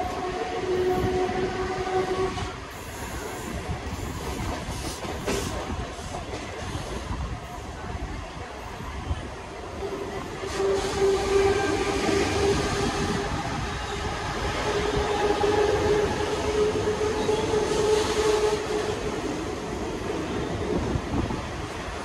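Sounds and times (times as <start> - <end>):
electric train rumbling on track: 0.0 - 22.0.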